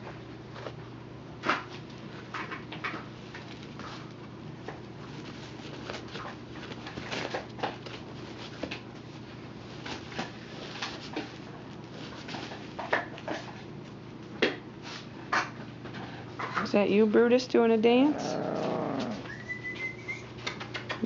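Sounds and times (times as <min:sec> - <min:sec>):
puppies scrabbling on pads: 0:01.4 - 0:16.8, 0:17.9 - 0:21.0.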